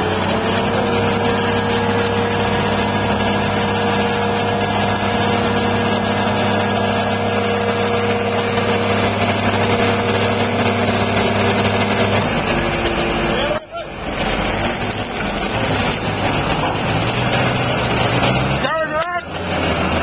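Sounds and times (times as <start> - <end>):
heavy machine engine humming: 0.0 - 20.0.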